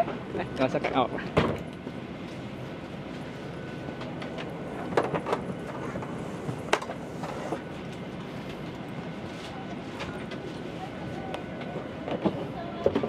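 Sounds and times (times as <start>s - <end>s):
cabin air rushing hum: 0.0s - 13.0s.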